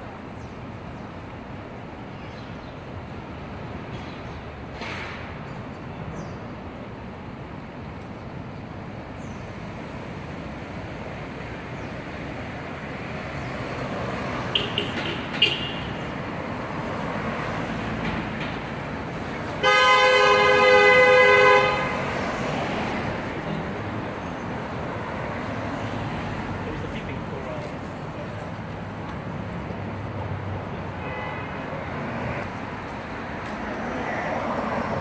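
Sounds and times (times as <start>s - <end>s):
passing cars: 2.8s - 35.0s.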